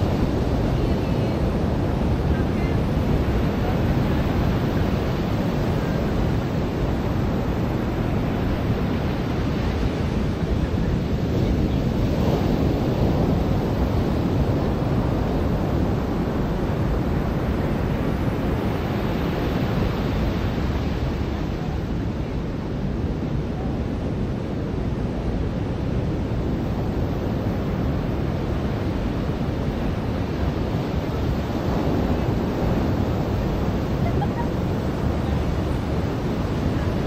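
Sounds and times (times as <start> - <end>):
ocean surf washing onto beach: 0.0 - 37.0.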